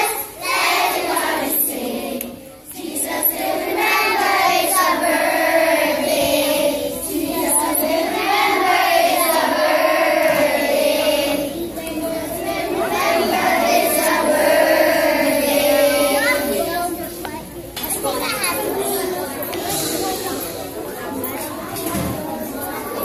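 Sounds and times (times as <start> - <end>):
children's choir singing: 0.0 - 17.4, 18.0 - 23.0.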